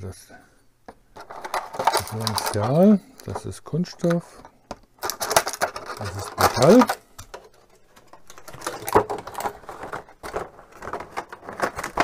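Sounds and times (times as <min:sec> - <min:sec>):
plastic film crinkling: 0:01.2 - 0:04.2, 0:05.0 - 0:12.0.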